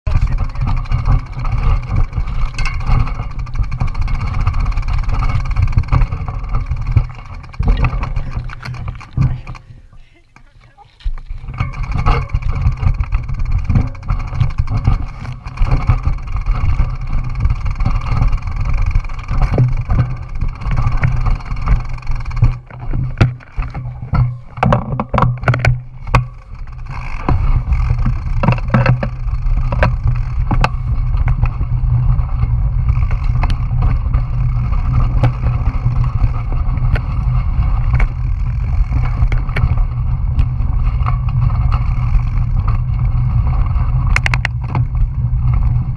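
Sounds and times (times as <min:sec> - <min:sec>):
bicycle rumbling on dirt road: 0:00.0 - 0:45.9
bike clacking over rocks: 0:00.1 - 0:45.9.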